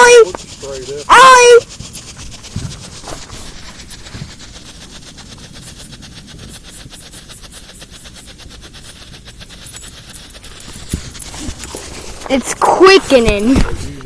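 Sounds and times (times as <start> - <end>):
strobe firework crackling: 0.0 - 14.0.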